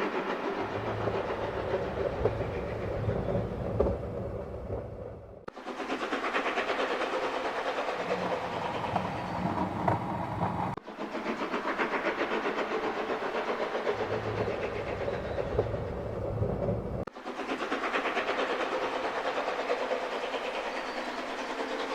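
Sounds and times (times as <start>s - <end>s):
steam train chuffing: 0.0s - 3.7s, 5.5s - 21.9s
train wheel clatter: 0.0s - 4.9s, 5.5s - 21.9s.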